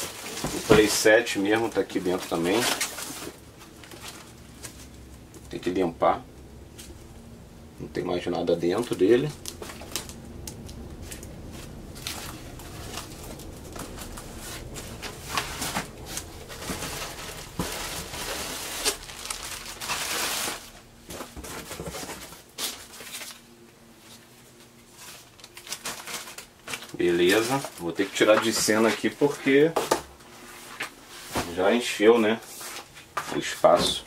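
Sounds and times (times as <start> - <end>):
cardboard and plastic bags rustling: 0.0 - 7.2, 7.9 - 34.0.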